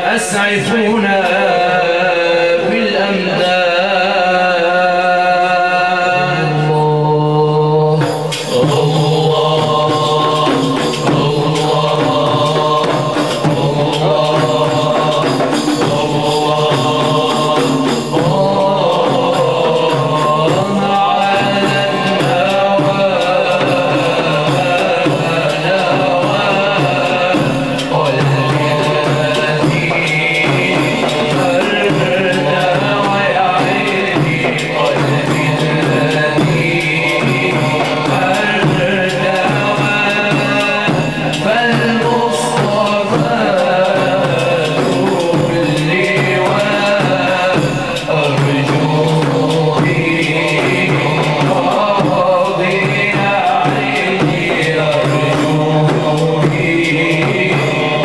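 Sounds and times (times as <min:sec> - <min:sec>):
drums beating: 0:00.0 - 0:58.0.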